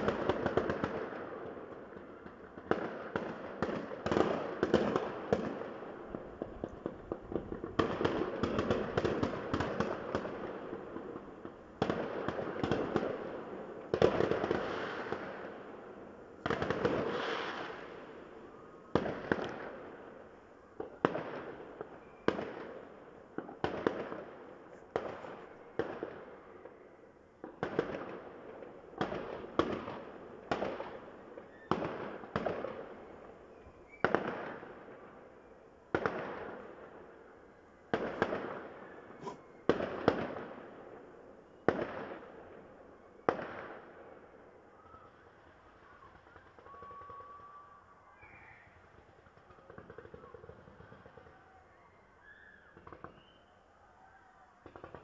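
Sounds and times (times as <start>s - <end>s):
fireworks bangs with rolling echo: 0.0s - 47.8s, 48.8s - 51.6s, 52.6s - 53.5s, 54.6s - 55.0s.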